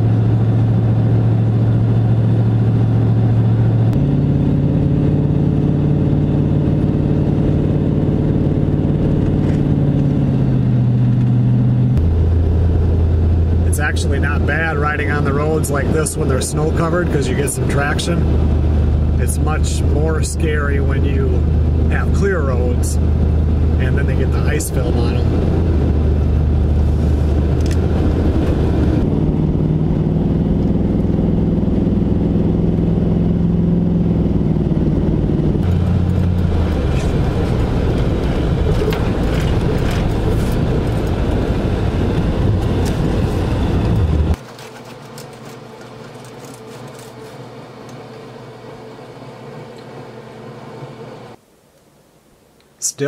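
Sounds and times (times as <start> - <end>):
vehicle engine running: 0.0 - 49.8.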